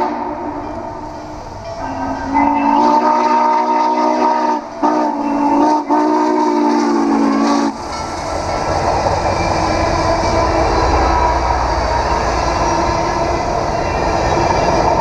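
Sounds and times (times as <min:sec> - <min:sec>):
steam locomotive chime whistle: 0:00.0 - 0:08.7, 0:09.3 - 0:15.0
train wheels rumbling: 0:00.0 - 0:15.0.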